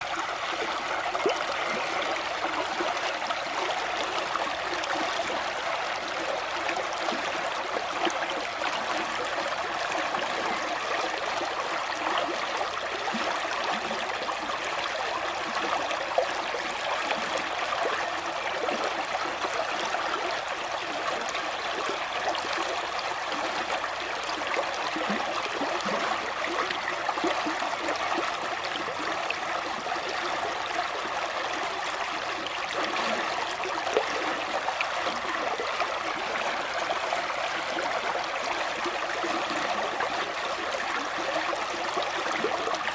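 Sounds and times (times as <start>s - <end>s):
stream flowing over stones: 0.0s - 42.9s.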